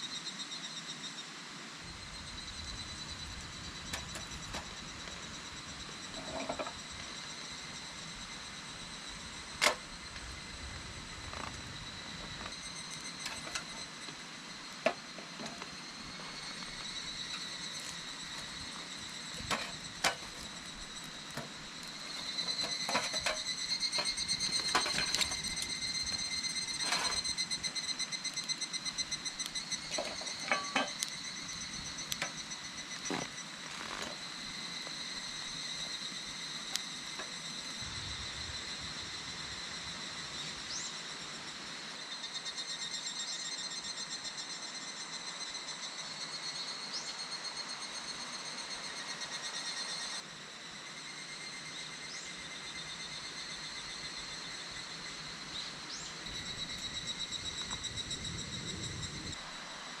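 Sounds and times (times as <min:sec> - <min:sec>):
cicadas calling: 0:00.0 - 1:00.0.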